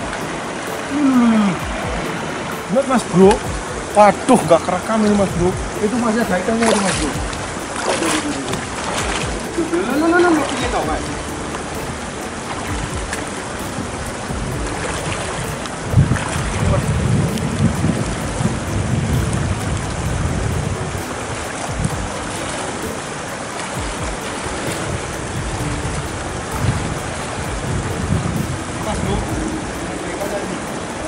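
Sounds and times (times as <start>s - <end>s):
shallow water sloshing: 0.0s - 31.0s
wind buffeting microphone: 0.0s - 31.0s.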